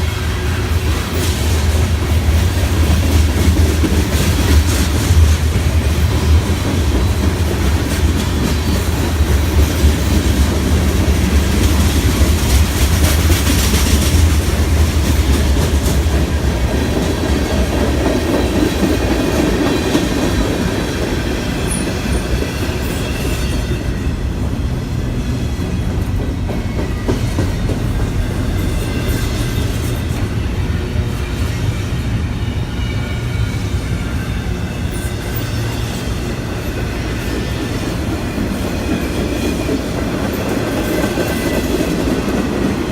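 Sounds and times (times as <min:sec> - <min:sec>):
train rumbling past: 0:00.0 - 0:42.9.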